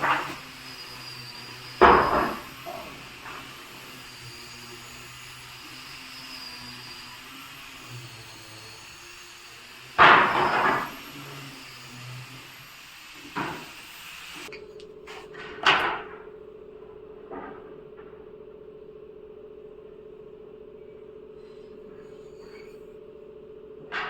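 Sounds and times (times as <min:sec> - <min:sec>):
workshop machinery humming: 0:00.0 - 0:24.0.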